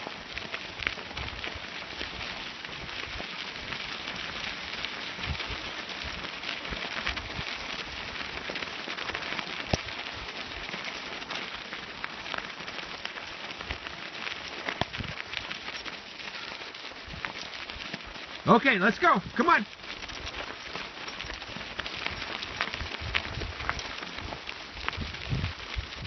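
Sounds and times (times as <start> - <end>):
wheels rolling over gravel: 0.0 - 26.0.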